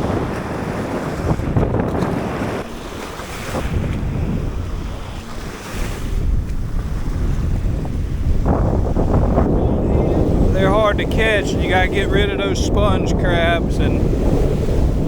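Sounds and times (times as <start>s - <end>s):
small waves washing on shore: 0.0s - 15.0s
wind buffeting microphone: 0.0s - 15.0s.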